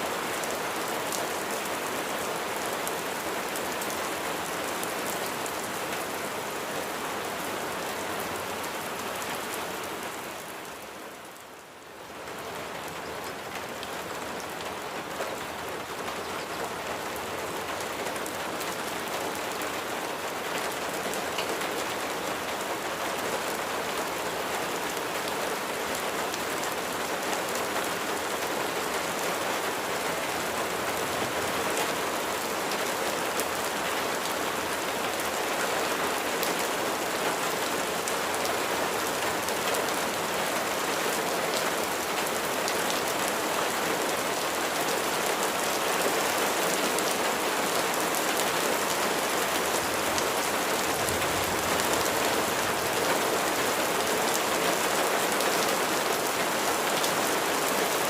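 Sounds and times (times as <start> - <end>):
rain falling on a surface: 0.0 - 58.0.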